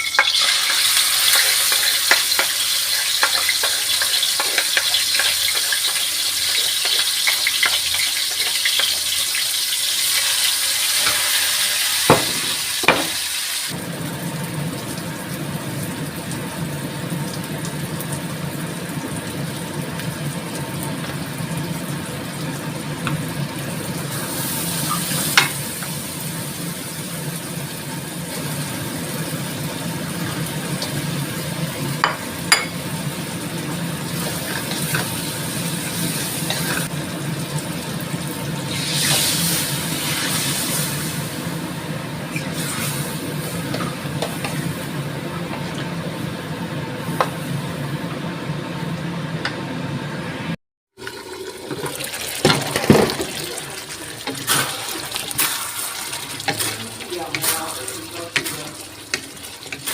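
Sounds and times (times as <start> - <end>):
food sizzling in a pan: 0.0 - 49.3, 51.0 - 59.9.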